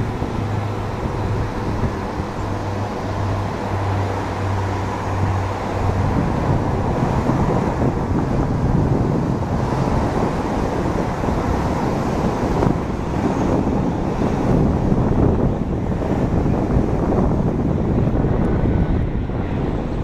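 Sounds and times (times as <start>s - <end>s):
jet engines rumbling: 0.0s - 20.0s
wind noise on microphone: 0.0s - 20.0s.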